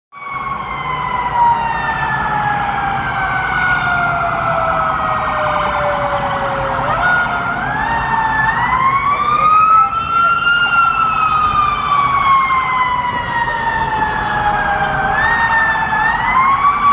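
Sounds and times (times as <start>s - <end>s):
fire truck siren wailing: 0.1s - 16.9s
traffic rumble: 0.2s - 16.9s.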